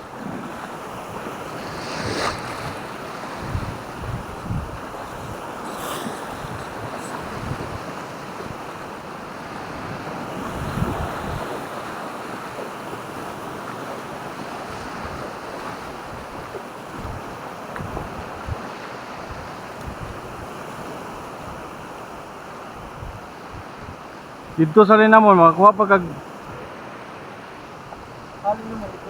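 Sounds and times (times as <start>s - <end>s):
wind buffeting microphone: 0.0s - 24.8s, 26.1s - 29.0s
sea waves washing ashore: 0.0s - 29.0s.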